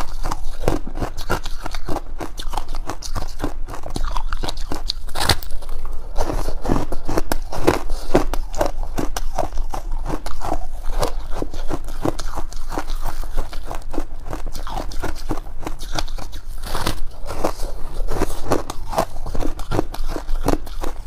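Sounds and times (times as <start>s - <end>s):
chewing crunchy ice: 0.0s - 21.0s.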